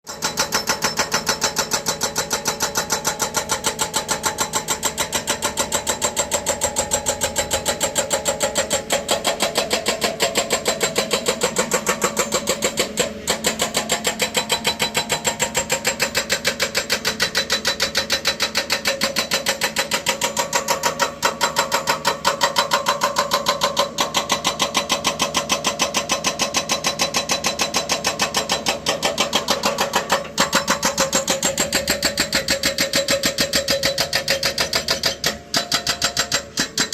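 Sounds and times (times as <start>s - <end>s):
excavator working: 2.9s - 36.9s.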